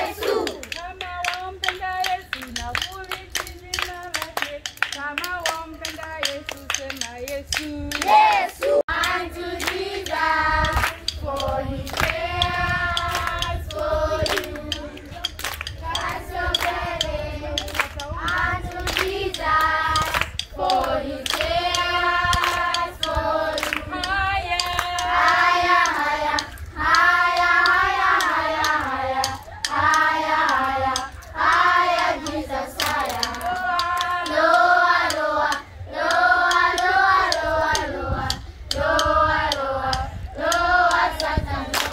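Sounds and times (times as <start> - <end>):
children and women singing: 0.0 - 41.9
hand clapping: 0.0 - 41.9.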